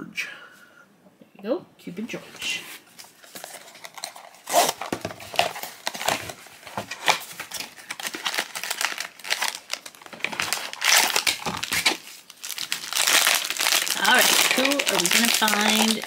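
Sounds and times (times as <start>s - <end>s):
packaging crinkling and rustling: 2.9s - 16.0s.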